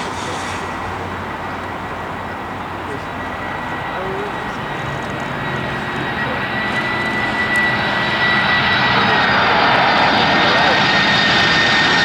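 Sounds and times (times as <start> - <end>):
aircraft engines roaring: 0.0 - 12.0.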